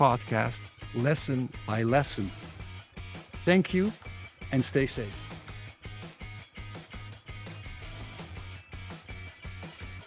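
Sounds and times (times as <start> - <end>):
background music with steady rhythm: 0.0 - 10.0.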